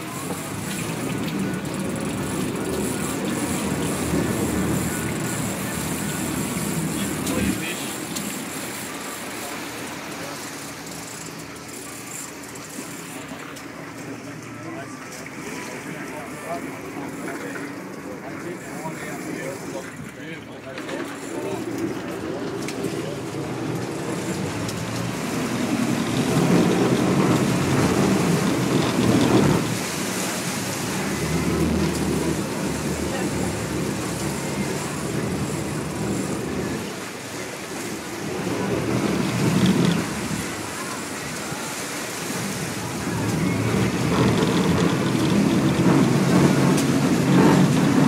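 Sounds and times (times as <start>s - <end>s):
boat engine water and wind rushing: 0.0s - 48.0s.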